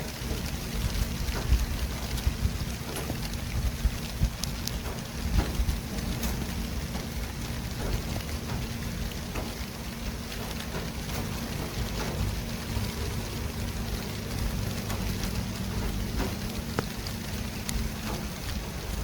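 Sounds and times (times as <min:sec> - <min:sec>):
low rumble of passing vehicles: 0:00.0 - 0:19.0.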